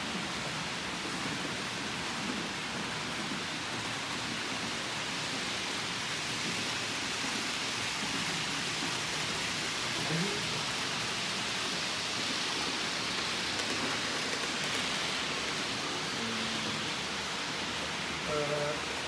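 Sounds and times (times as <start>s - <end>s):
model trains running: 0.0s - 19.0s.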